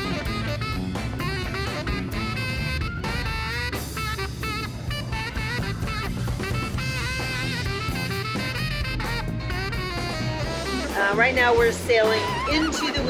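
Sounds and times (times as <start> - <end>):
bass and drum beat: 0.0 - 13.0
jazzy horn melody: 0.0 - 13.0.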